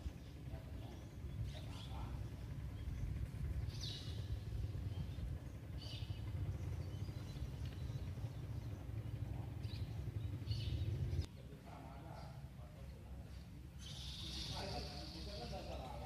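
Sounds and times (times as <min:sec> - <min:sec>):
steady low rumble: 0:00.0 - 0:13.8
birds chirping: 0:00.0 - 0:16.0.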